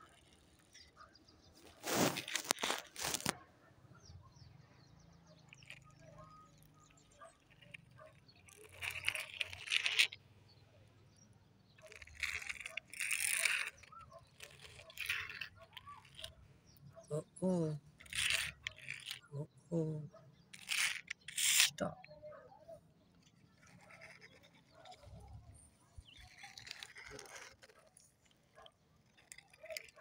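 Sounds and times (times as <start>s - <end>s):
plastic toy cars scraping on concrete: 0.0s - 30.0s.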